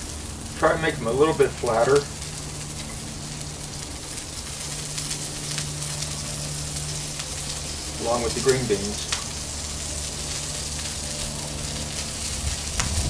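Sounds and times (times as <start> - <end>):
low hum: 0.0 - 13.0
vegetables sizzling in oil: 0.0 - 13.0.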